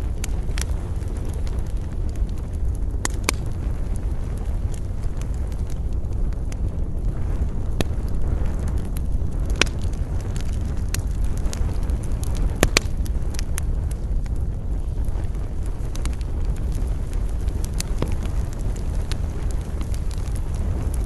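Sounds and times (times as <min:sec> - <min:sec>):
wind rumbling: 0:00.0 - 0:21.0
wood fire crackling and popping: 0:00.0 - 0:21.0.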